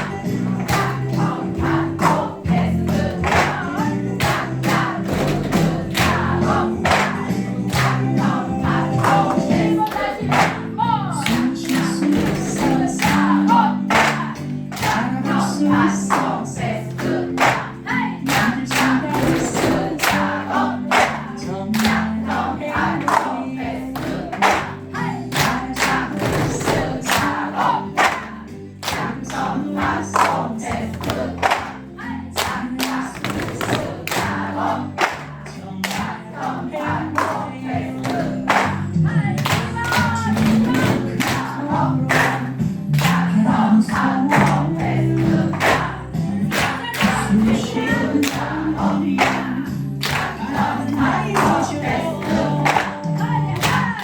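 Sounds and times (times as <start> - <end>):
pop song with singing: 0.0 - 54.0.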